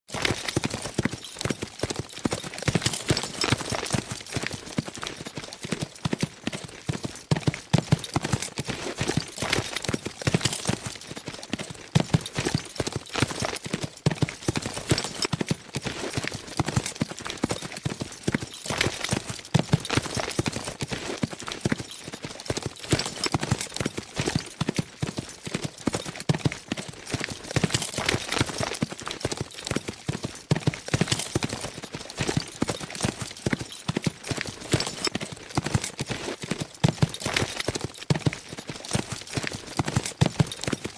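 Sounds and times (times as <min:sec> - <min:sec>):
horses galloping: 0:00.1 - 0:40.9.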